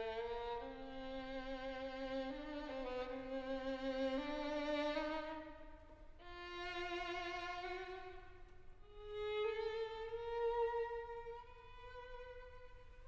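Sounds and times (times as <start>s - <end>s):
slow violin melody: 0.0s - 13.0s.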